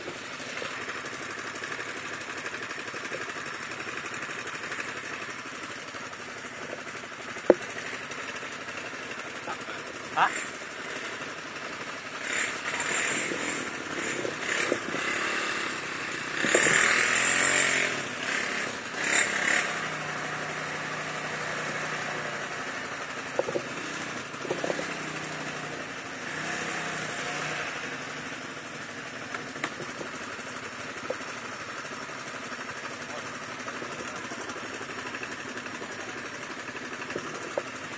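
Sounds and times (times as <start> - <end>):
quad bike engines revving: 0.0 - 37.9.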